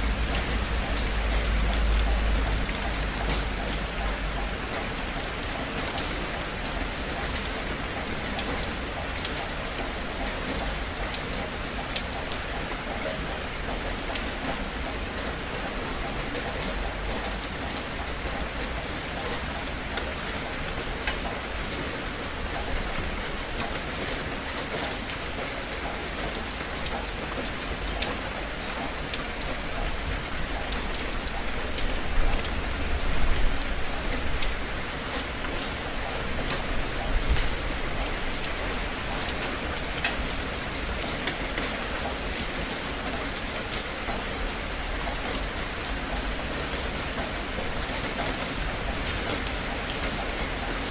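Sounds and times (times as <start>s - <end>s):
steady rain falling: 0.0s - 50.9s
raindrops ticking: 0.1s - 50.9s.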